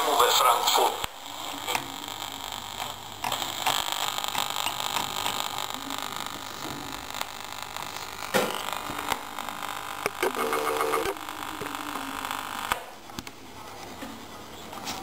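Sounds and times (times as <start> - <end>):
garbled radio broadcast: 0.0 - 13.8
radio static hiss: 0.0 - 15.0.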